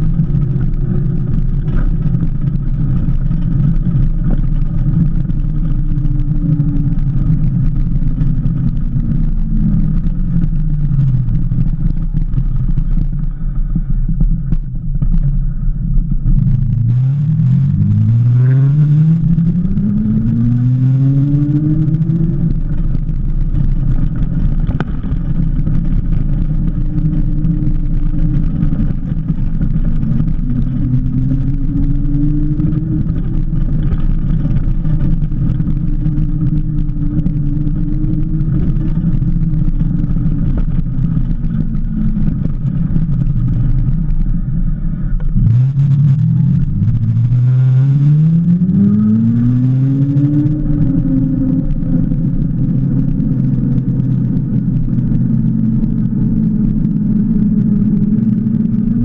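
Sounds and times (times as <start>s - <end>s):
low rumble of wind and tyres: 0.0s - 59.0s.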